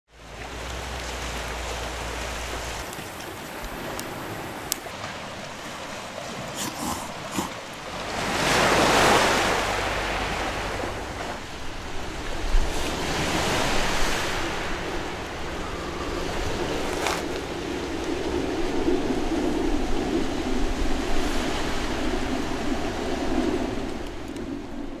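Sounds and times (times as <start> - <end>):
sea waves breaking on shore: 0.1 - 25.0.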